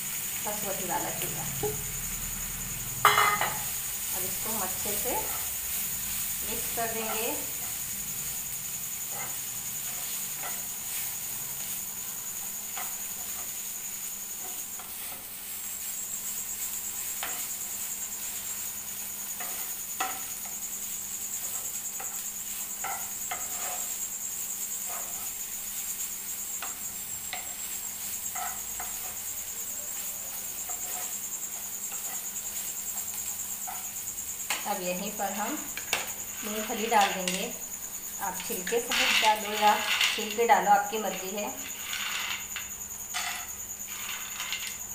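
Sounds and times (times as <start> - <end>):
high-pitched insect-like chirring: 0.0 - 44.9
spatula scraping frying pan: 3.0 - 44.9.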